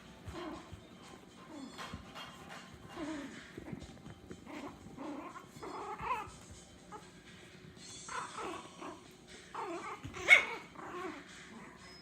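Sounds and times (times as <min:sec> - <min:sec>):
puppies yelping and whining: 0:00.2 - 0:12.0.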